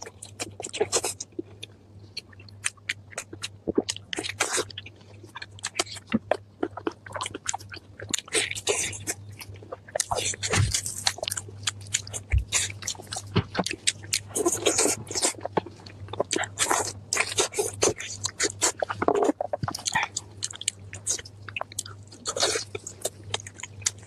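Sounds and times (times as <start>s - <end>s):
crunching and chewing crispy food: 0.0s - 24.0s
faint low hum: 0.0s - 24.0s.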